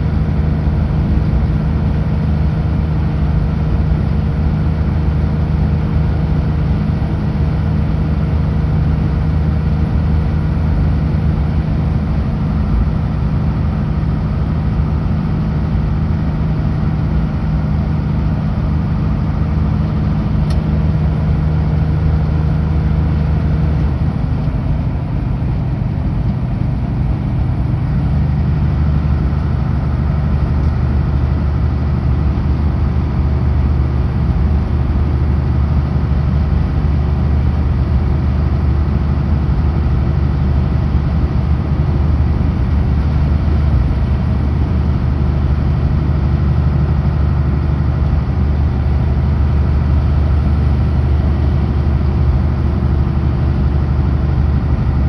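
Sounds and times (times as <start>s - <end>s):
road noise: 0.0s - 55.0s
truck diesel engine drone: 0.0s - 55.0s.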